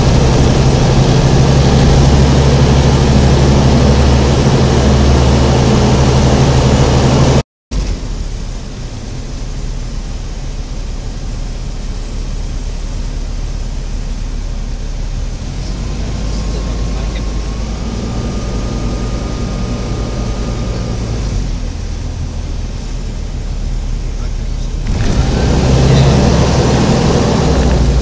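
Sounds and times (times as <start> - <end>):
propeller aircraft engine drone: 0.0 - 28.0.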